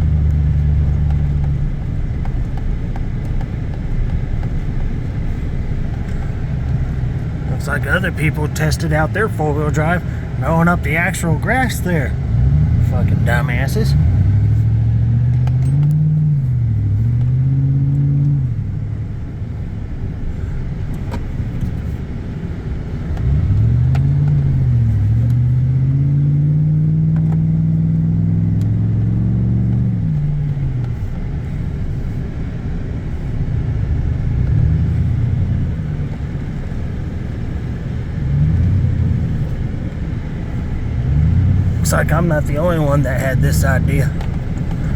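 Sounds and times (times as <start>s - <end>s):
vehicle engine revving: 0.0s - 44.9s.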